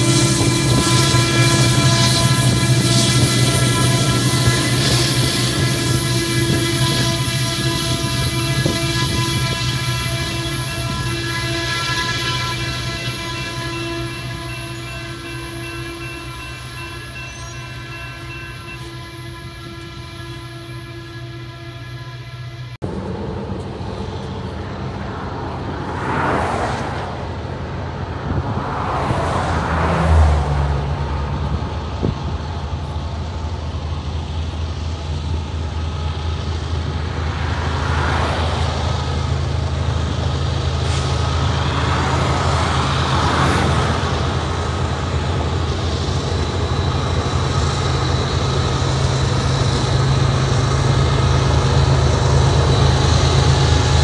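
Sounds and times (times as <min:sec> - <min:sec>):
diesel locomotive engine drone: 0:00.0 - 0:54.0
train hiss: 0:00.0 - 0:54.0.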